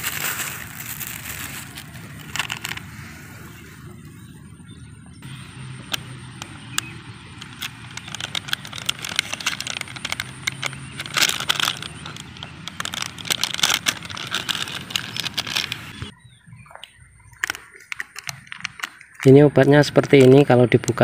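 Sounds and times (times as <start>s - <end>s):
plastic sachet crinkling: 0.0s - 3.7s, 5.2s - 16.1s, 17.4s - 21.0s.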